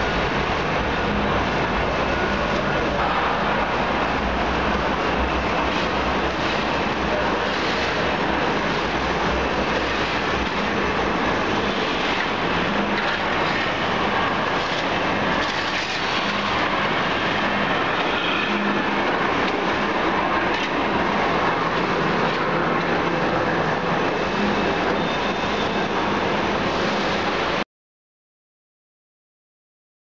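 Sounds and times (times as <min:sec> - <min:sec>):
machinery roar: 0:00.0 - 0:27.6.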